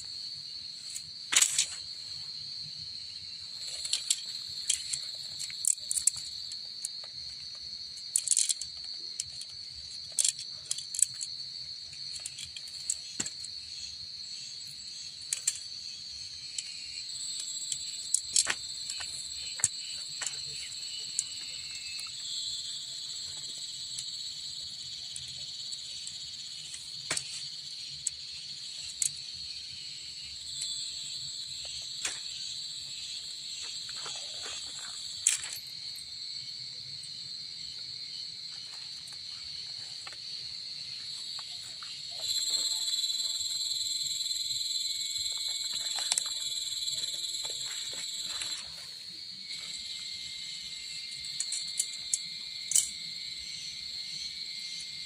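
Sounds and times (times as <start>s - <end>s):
insect chorus trilling: 0.0s - 55.0s.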